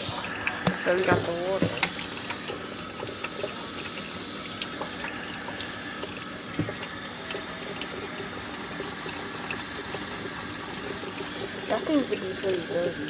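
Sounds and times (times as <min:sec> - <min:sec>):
kitchen faucet running: 0:00.0 - 0:13.0.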